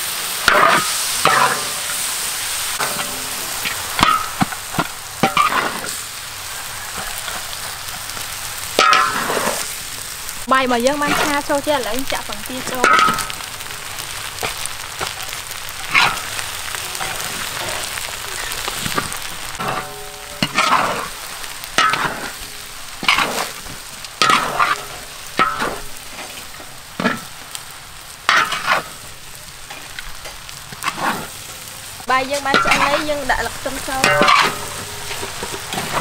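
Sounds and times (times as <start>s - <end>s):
food sizzling in a wok: 0.0s - 36.0s
metal spatula scraping wok: 0.4s - 9.9s, 10.5s - 27.4s, 28.3s - 36.0s.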